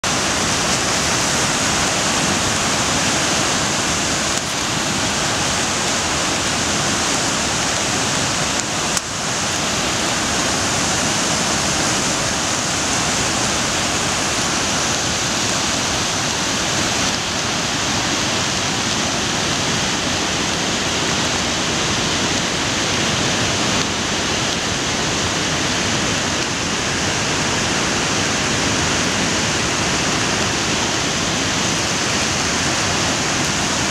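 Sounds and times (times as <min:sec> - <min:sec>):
river water rushing over boulders: 0:00.0 - 0:33.9.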